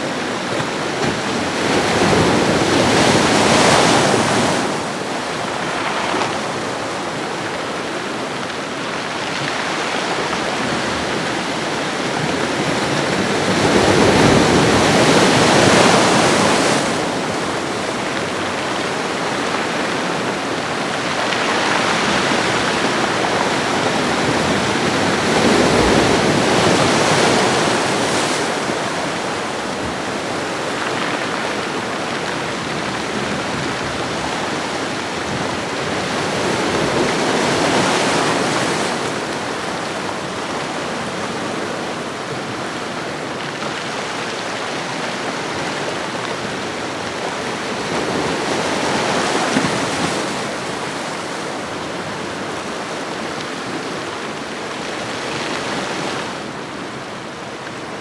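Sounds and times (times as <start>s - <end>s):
ocean waves washing on shore: 0.0s - 58.0s.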